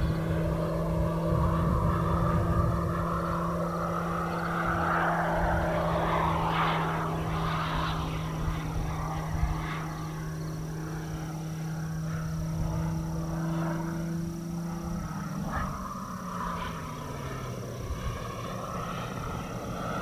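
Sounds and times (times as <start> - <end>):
model plane flying past: 0.0 - 20.0
steady low hum: 0.0 - 20.0.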